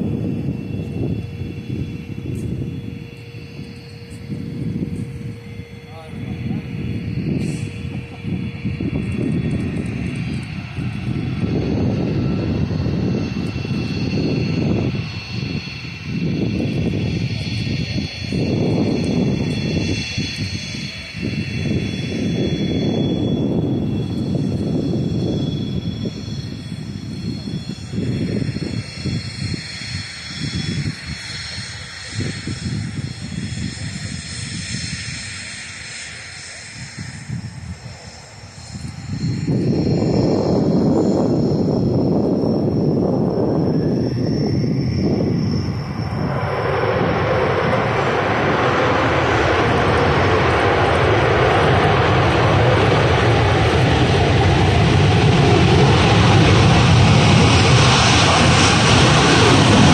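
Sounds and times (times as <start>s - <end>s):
distant jet engines whining: 0.0s - 59.9s
wind buffeting microphone: 0.0s - 59.9s.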